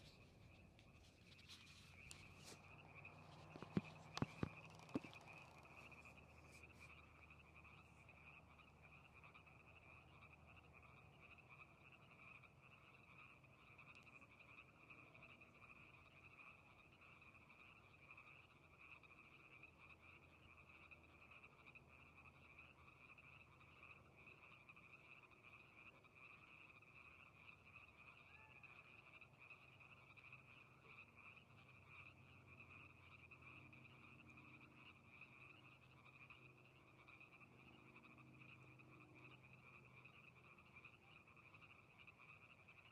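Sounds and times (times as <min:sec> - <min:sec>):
chorus of frogs trilling: 0:00.0 - 0:42.9.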